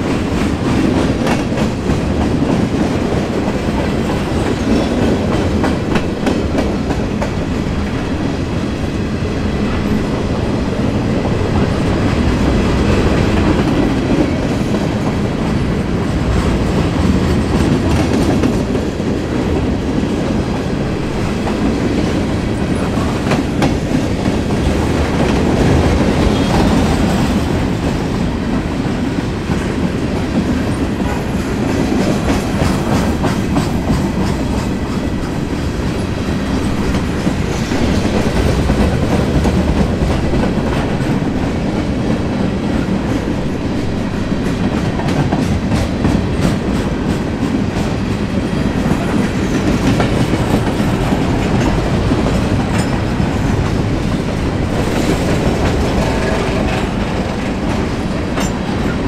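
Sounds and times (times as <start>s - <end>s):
steel wheels rumbling on rails: 0.0s - 59.0s
train clickety-clack: 0.0s - 59.0s.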